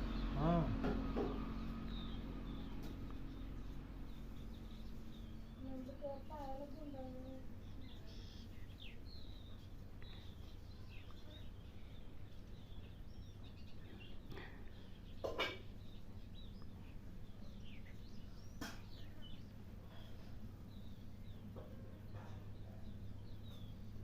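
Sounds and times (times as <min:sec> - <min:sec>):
small birds chirping: 0:00.0 - 0:24.0
steady low hum: 0:00.0 - 0:24.0.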